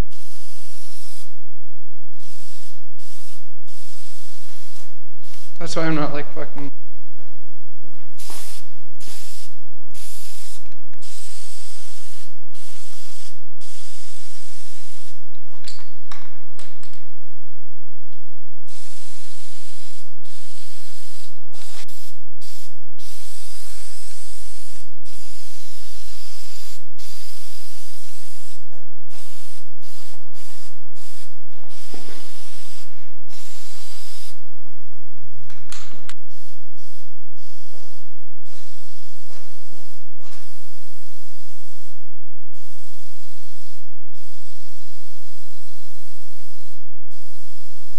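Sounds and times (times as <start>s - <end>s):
spray-paint can hissing: 0.0s - 1.4s, 2.1s - 5.8s, 8.1s - 15.8s, 18.6s - 34.5s, 35.7s - 47.9s.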